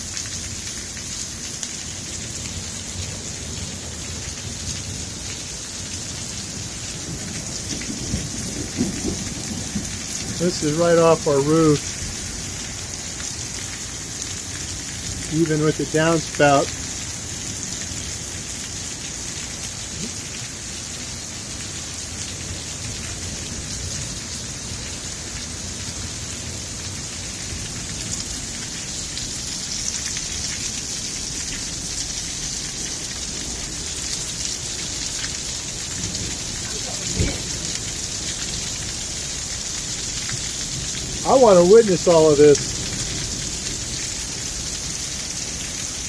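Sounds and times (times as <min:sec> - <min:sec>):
heavy rain pouring: 0:00.0 - 0:46.0
water running off roof: 0:00.0 - 0:46.0.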